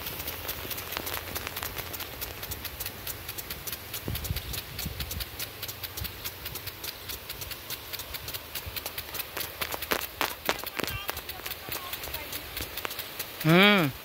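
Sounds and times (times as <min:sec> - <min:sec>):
sprinkler arms clicking: 0:00.0 - 0:14.0
water spray hissing: 0:00.0 - 0:14.0.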